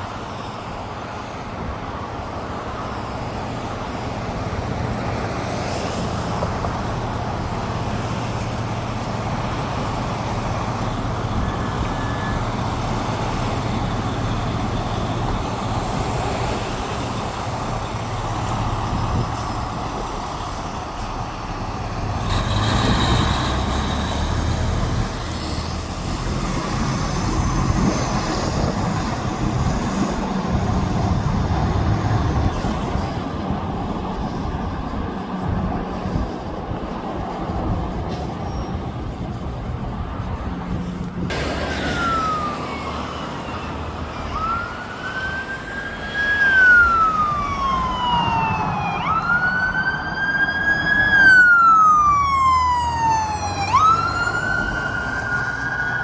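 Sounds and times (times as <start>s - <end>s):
fire engine running: 0.0s - 56.0s.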